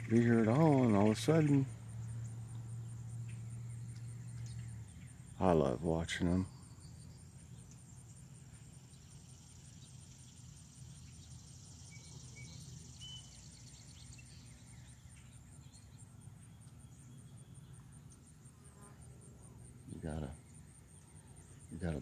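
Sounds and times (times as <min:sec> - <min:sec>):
bird chirps: 0:00.0 - 0:18.9
crickets trilling: 0:00.0 - 0:22.0.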